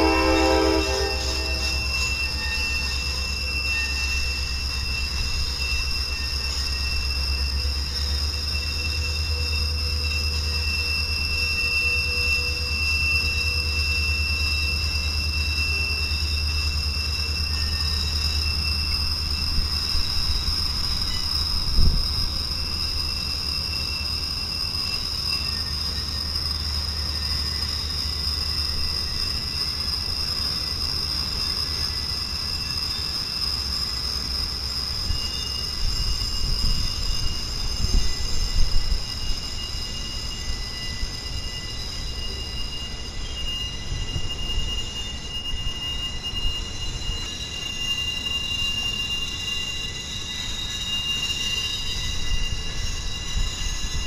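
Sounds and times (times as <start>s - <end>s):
high-pitched wheel squeal: 0.0s - 54.0s
train rumbling past: 0.0s - 54.0s.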